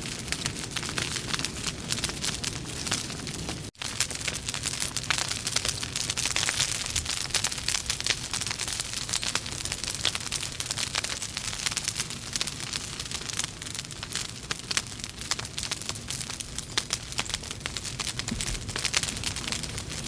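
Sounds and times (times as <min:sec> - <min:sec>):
fire crackling and popping: 0:00.0 - 0:20.0
hiss and rumble of flames: 0:00.0 - 0:20.0.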